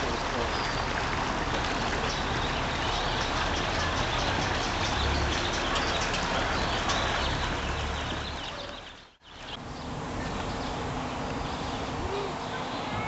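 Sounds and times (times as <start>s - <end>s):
running water rushing: 0.0s - 13.0s
small birds chirping: 0.0s - 13.0s.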